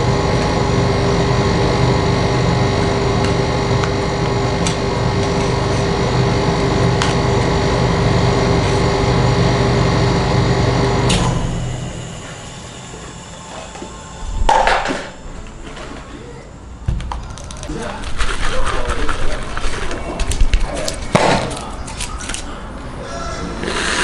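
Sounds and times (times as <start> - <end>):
machine electric hum: 0.0 - 24.0.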